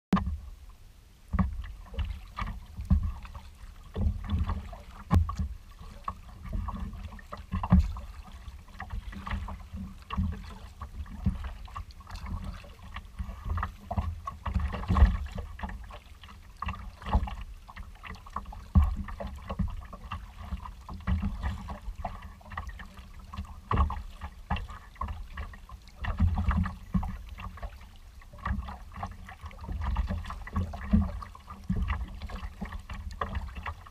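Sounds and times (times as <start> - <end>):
water sloshing against kayak hull: 0.2 - 33.9.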